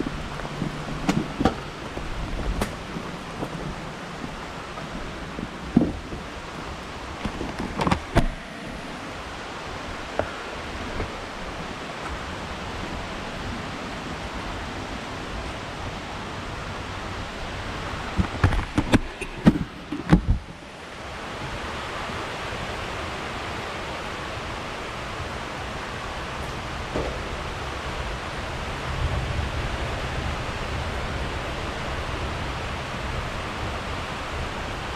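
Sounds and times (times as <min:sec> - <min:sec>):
rain noise: 0:00.0 - 0:34.9
rushing wind: 0:00.0 - 0:34.9.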